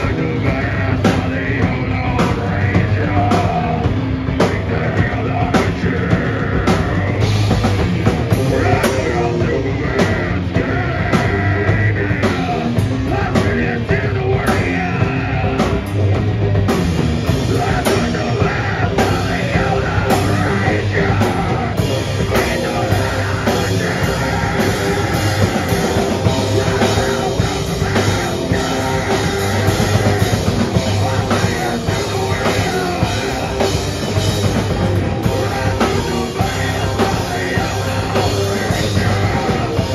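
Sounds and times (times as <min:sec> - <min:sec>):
heavy band playing live: 0:00.0 - 0:39.9
singer screaming: 0:00.0 - 0:39.9.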